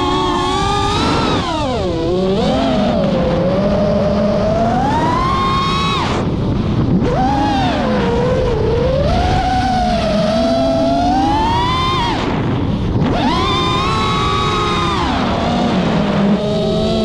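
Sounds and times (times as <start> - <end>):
quadcopter motors whining: 0.0 - 17.0
wind on microphone: 0.0 - 17.0.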